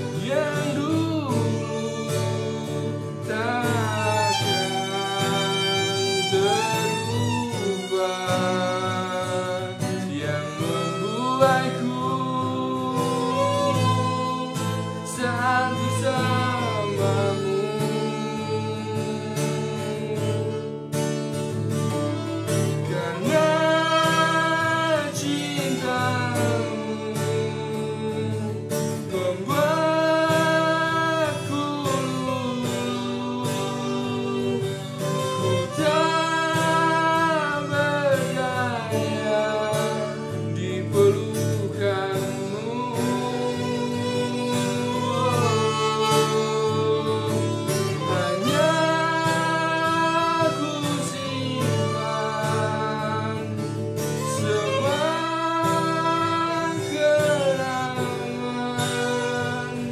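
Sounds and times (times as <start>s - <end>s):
person singing long held notes: 0.0s - 20.7s, 22.5s - 59.9s.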